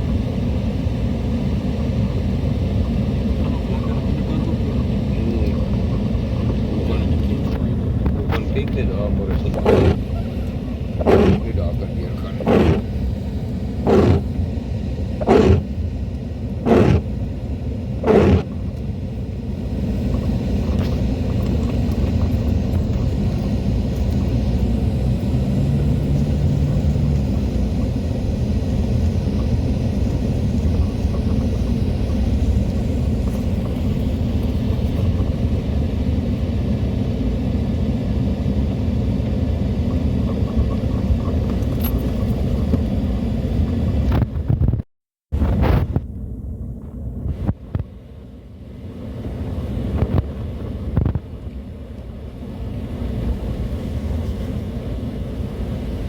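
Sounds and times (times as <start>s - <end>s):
vehicle rumble: 0.0s - 56.0s.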